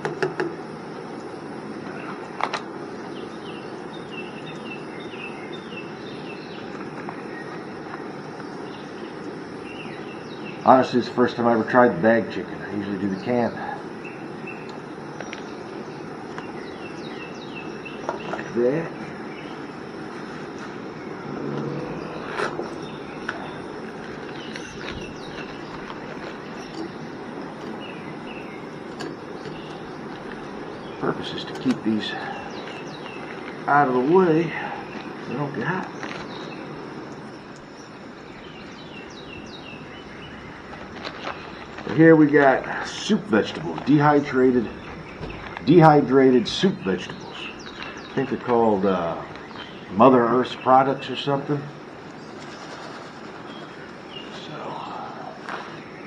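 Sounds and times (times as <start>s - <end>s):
bird chirping: 0.0s - 56.0s
steady background hiss: 0.0s - 56.0s
steady rushing noise: 0.0s - 56.0s.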